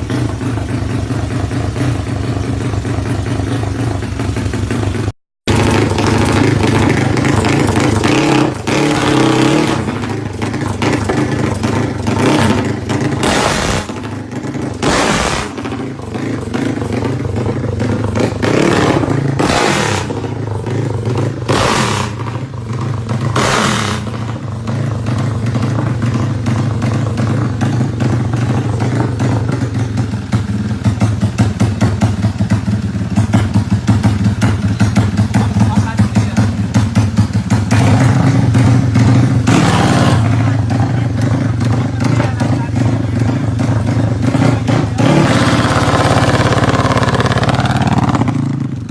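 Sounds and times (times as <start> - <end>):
motorbike engine running loud: 0.0 - 48.9.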